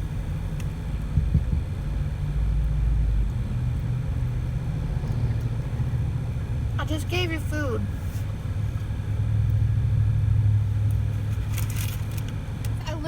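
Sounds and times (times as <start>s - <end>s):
van engine rumbling: 0.0s - 13.0s.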